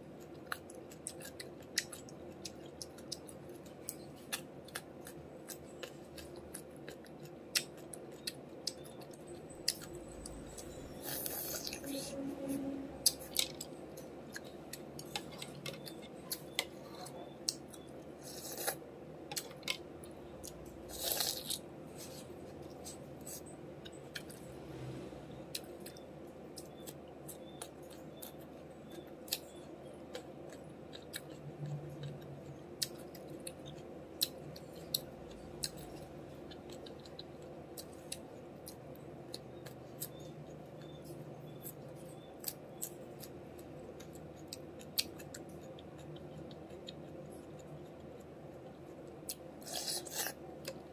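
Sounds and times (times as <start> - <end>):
crunchy chewing: 0.1 - 12.1, 13.0 - 50.9.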